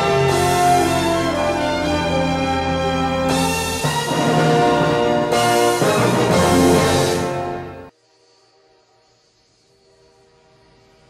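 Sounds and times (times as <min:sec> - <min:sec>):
music with long held chords: 0:00.0 - 0:09.0.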